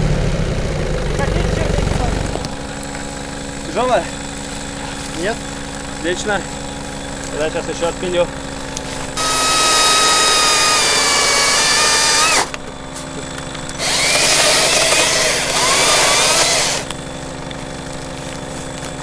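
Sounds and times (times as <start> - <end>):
electric chainsaw cutting wood: 0.0 - 19.0.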